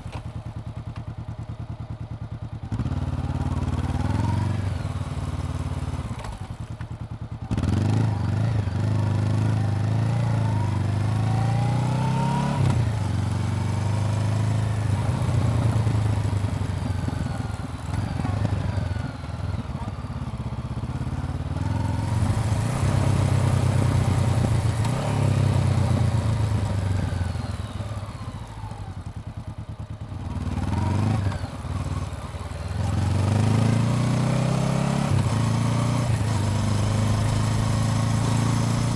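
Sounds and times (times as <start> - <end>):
motorcycle engine revving: 7.4 - 38.9.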